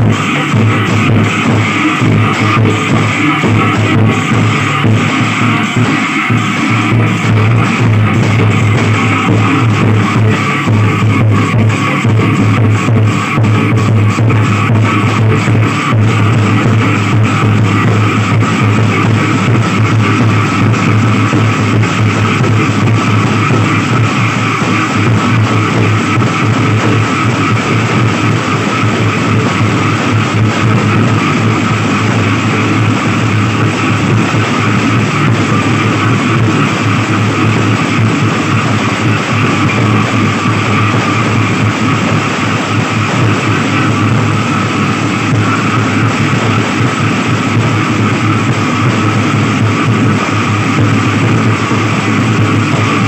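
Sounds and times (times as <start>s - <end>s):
brass cymbals clashing: 0.0s - 52.8s
drums beaten with sticks: 0.0s - 53.0s.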